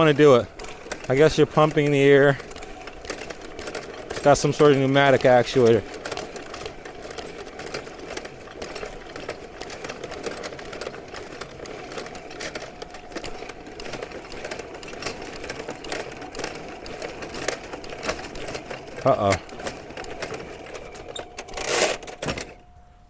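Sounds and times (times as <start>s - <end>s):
drain snake motor whirring: 0.0s - 22.5s
cable clicking and rattling: 0.0s - 22.7s.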